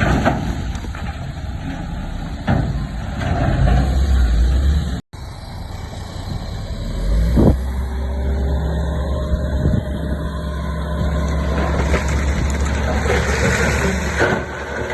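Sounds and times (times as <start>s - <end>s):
heavy diesel machinery running: 0.0s - 14.9s.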